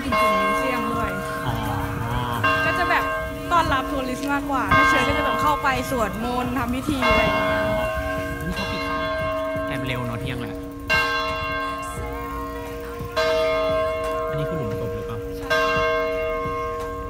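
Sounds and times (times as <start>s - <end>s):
large tower bell tolling: 0.0s - 17.0s.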